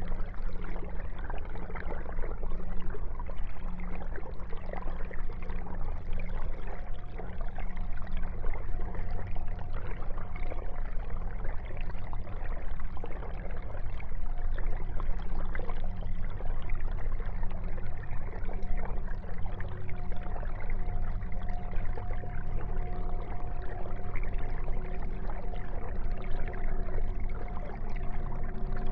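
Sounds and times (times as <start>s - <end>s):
aquarium water bubbling: 0.0s - 28.9s
faint steady hum: 0.0s - 28.9s.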